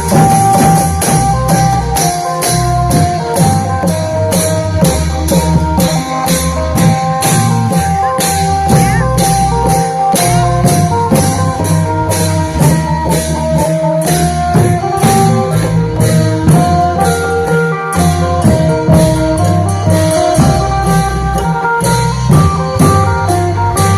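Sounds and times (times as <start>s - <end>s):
long drums playing: 0.0s - 23.9s.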